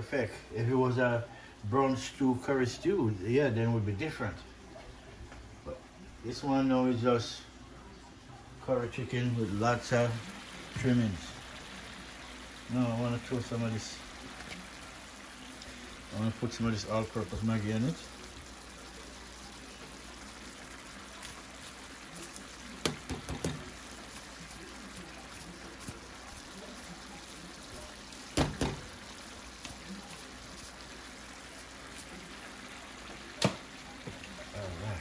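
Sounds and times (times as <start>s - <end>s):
faint sizzle in a pot: 0.0s - 35.0s.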